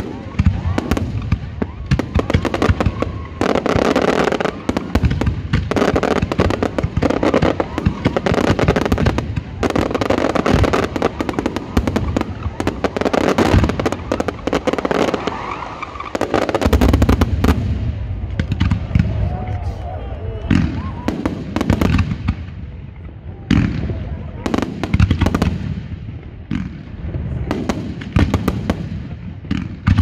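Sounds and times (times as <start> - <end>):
deep fireworks booms: 0.0 - 30.0
fireworks bursting and crackling: 0.0 - 30.0.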